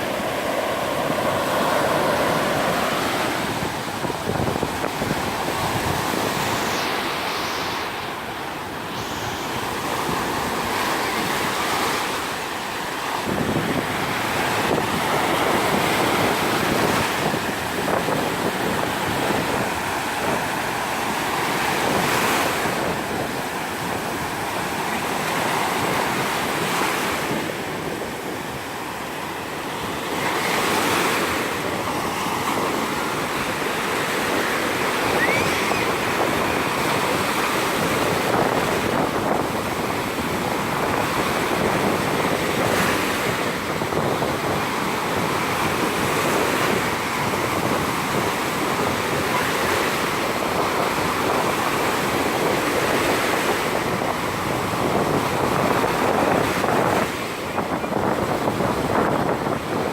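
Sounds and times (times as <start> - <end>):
waves breaking on beach: 0.0 - 59.9
wind buffeting microphone: 0.0 - 59.9.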